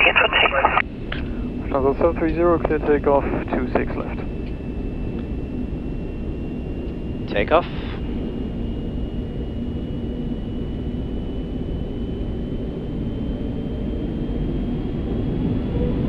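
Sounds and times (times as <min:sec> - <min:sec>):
high whine climbing: 0:00.0 - 0:16.0
jet engines spooling up: 0:00.0 - 0:16.0.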